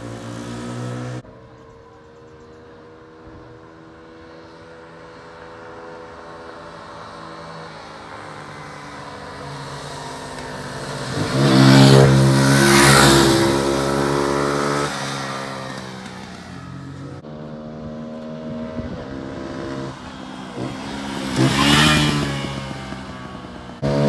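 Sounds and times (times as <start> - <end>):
motorcycles riding past: 0.0 - 24.0.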